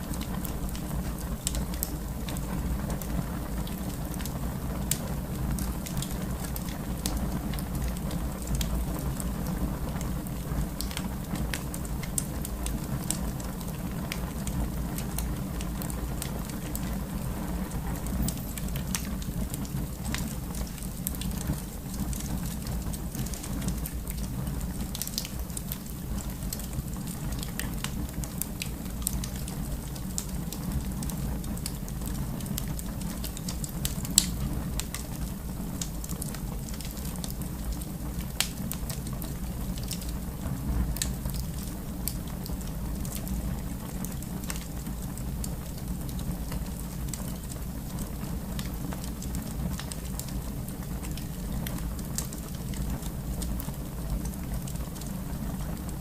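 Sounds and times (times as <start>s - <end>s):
fire snaps and pops: 0.0s - 56.0s
wood fire crackling: 0.0s - 56.0s.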